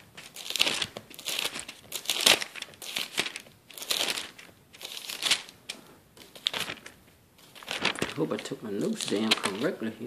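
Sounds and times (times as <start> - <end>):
paper pages rustling: 0.0 - 10.0.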